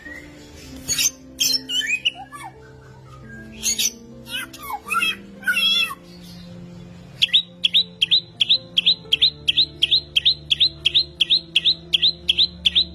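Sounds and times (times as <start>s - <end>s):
low musical drone: 0.0s - 12.9s
songbird chirping: 0.0s - 12.9s.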